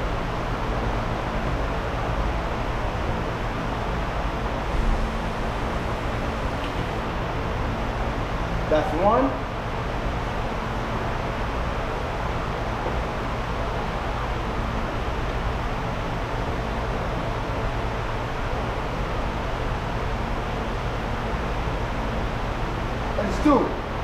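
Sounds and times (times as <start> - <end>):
low constant hum: 0.0 - 24.0.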